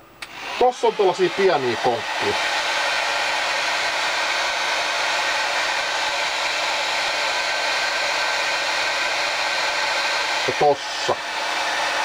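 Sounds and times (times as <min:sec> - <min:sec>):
hot-air blower running: 0:00.0 - 0:12.0.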